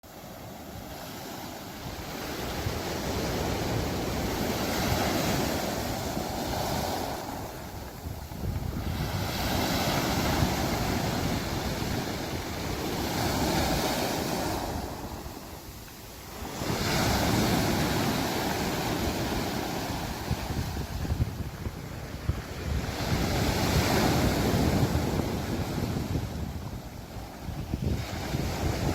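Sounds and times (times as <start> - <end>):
sea waves breaking: 0.1 - 28.9
wind buffeting microphone: 0.1 - 28.9.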